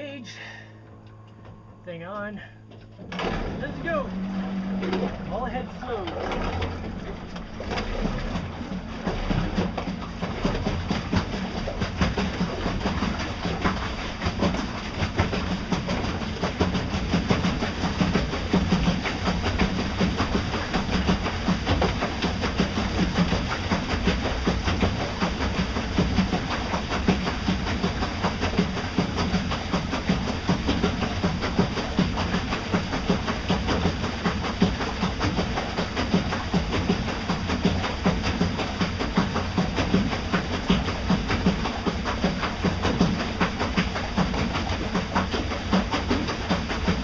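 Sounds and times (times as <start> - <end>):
boat vibrating rumble: 0.0 - 47.0
water slapping boat hulls: 0.0 - 47.0.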